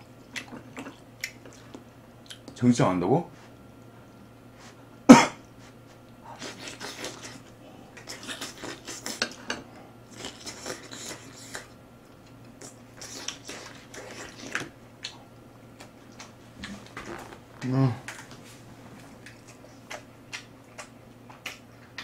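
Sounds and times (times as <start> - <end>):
chewing: 0.2 - 2.6, 6.0 - 18.4, 19.0 - 22.0.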